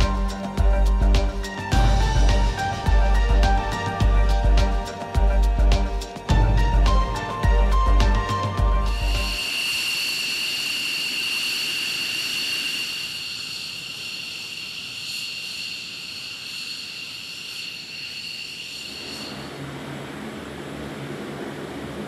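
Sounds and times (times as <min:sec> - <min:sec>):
propeller drone: 0:00.0 - 0:15.4, 0:18.8 - 0:22.0.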